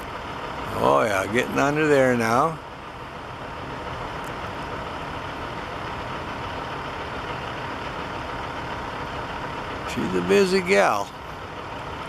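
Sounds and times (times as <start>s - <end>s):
engine and traffic noise: 0.0s - 12.0s.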